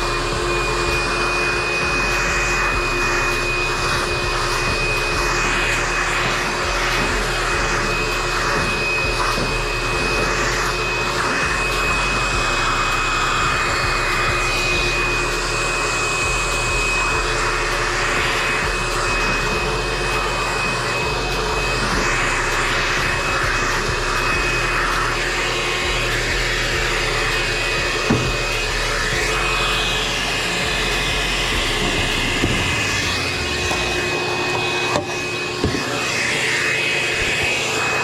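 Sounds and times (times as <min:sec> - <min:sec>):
shop vac whining: 0:00.0 - 0:38.0.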